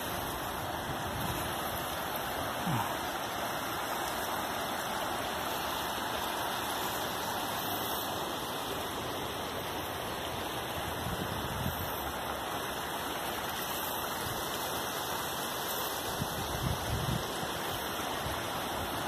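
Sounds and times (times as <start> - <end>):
river rushing over a weir: 0.0 - 19.0.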